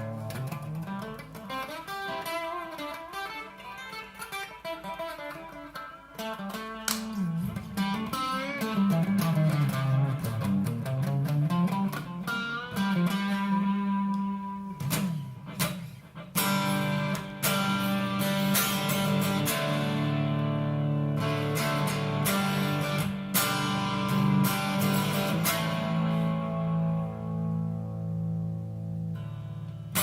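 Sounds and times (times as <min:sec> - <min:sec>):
sharp guitar strum: 0:00.0 - 0:28.5
electric guitar with delay: 0:00.0 - 0:30.0.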